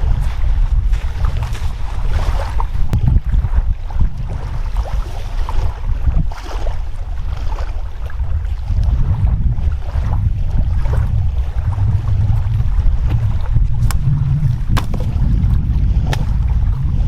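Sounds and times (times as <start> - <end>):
surf washing on shore: 0.0 - 17.0
wind buffeting microphone: 0.0 - 17.0.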